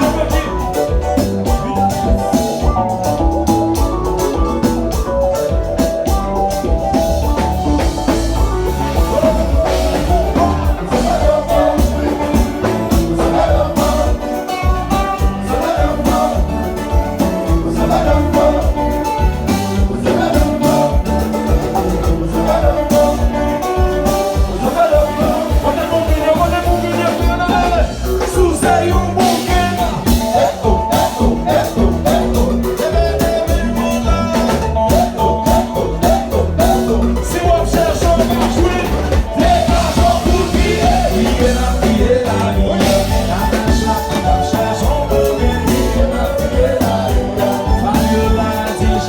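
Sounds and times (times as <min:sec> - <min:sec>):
latin dance music with singing: 0:00.0 - 0:49.0.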